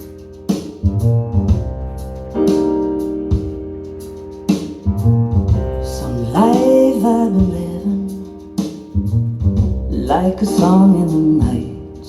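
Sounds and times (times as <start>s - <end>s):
piano-led song with drums: 0.0s - 12.0s.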